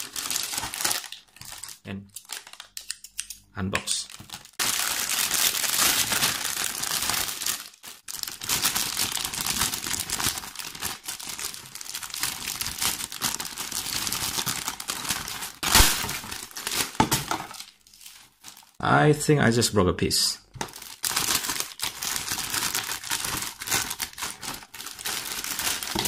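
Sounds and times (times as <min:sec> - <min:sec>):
plastic bags crinkling and tearing: 0:00.0 - 0:03.0, 0:03.9 - 0:18.8, 0:20.6 - 0:26.0.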